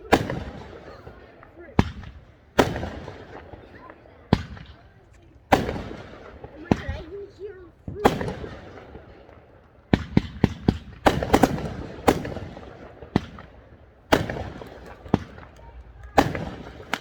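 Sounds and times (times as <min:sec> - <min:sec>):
fireworks bangs with rumbling echo: 0:00.0 - 0:17.0.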